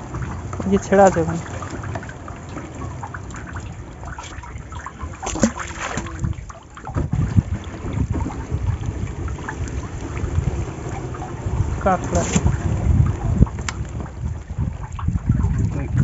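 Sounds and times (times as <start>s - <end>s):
net knocking on boat: 0.0s - 16.0s
water trickling and splashing: 0.0s - 16.0s
wind rumble on microphone: 0.0s - 16.0s.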